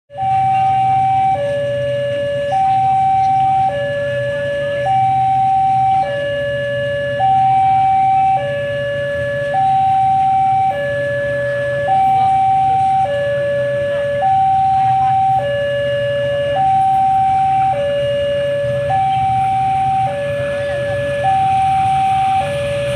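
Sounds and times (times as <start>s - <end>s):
level crossing two-tone alarm: 0.1s - 22.9s.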